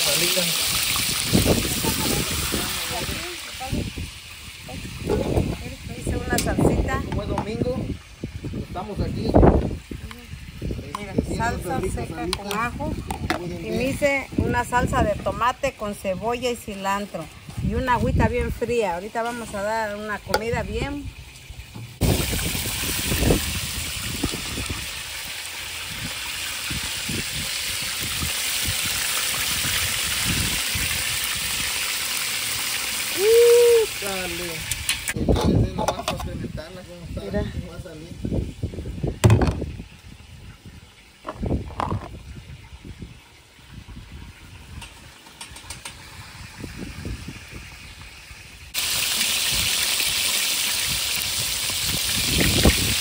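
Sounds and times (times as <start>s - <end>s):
chicken wings deep-frying in oil: 0.0s - 36.6s, 38.2s - 53.0s.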